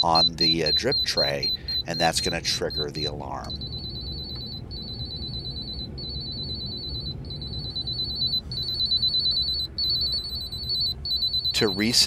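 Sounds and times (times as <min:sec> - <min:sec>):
warbling electronic alarm tone: 0:00.0 - 0:12.0.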